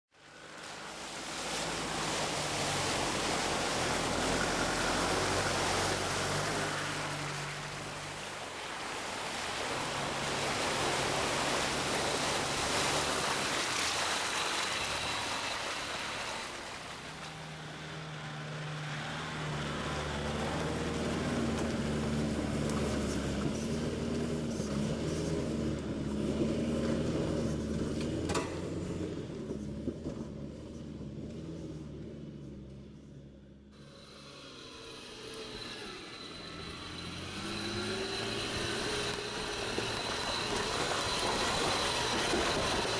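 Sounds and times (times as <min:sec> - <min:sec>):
water and mud swishing under tyres: 0:00.2 - 0:31.8, 0:36.3 - 0:42.9
engine working at low speed: 0:00.2 - 0:42.9.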